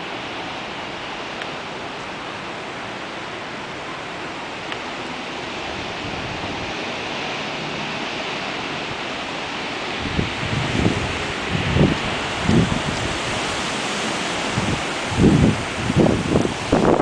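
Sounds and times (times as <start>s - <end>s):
wind gusts buffeting microphone: 0.0s - 17.0s
wind rushing hiss: 0.0s - 17.0s.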